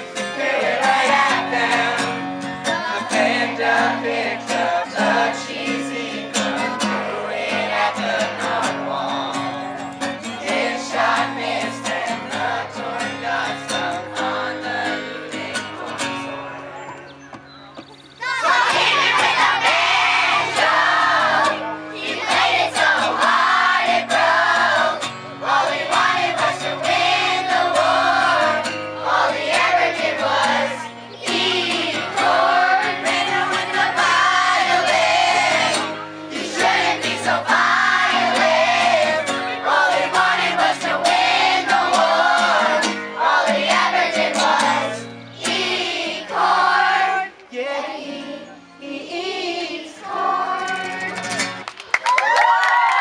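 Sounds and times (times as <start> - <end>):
children singing: 0.0 - 16.5, 18.2 - 51.1
strummed acoustic guitar: 0.0 - 17.2, 18.5 - 47.3, 50.3 - 51.7.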